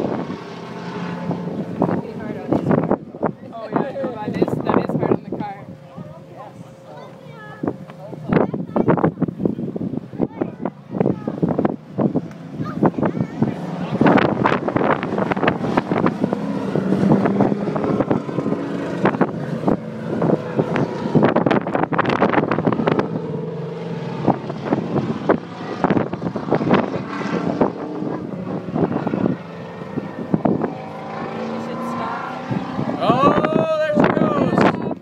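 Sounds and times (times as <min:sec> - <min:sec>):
stock car engines racing: 0:00.0 - 0:35.0
wind buffeting microphone: 0:00.0 - 0:35.0.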